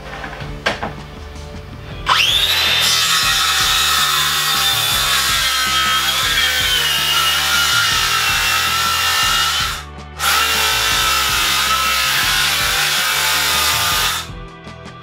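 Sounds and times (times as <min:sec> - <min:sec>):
circular saw cutting wood: 0:02.0 - 0:14.4.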